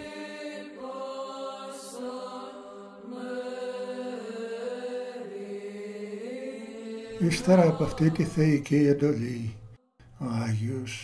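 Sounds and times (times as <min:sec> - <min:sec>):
choir chanting: 0:00.0 - 0:10.6.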